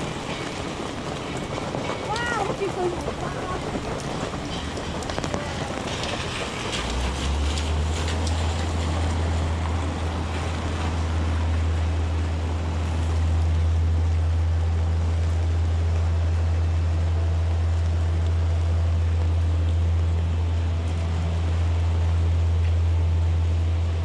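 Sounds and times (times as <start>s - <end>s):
heavy rain falling: 0.0s - 24.0s
low rumble of vehicle: 0.0s - 24.0s.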